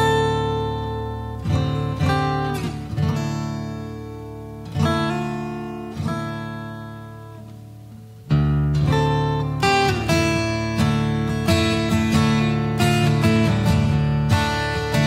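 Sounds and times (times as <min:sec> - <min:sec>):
acoustic guitar strummed chords: 0:00.0 - 0:15.0.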